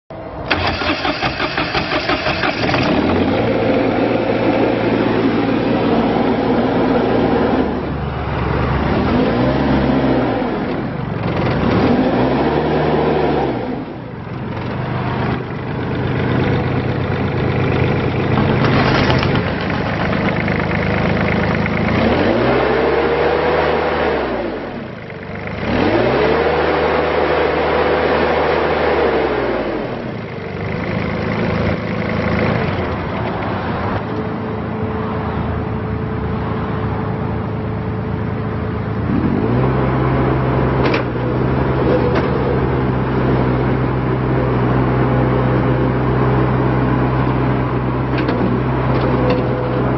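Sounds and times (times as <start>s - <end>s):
diesel engine revving and idling: 0.1s - 49.9s.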